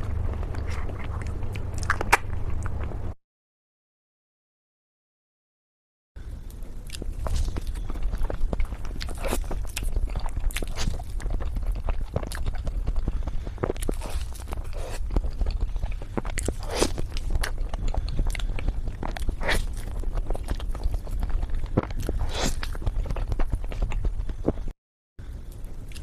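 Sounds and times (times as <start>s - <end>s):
wet chewing and mouth clicks: 0.0s - 3.0s, 6.5s - 24.7s, 25.5s - 26.0s
low hum: 0.0s - 3.2s, 6.2s - 26.0s.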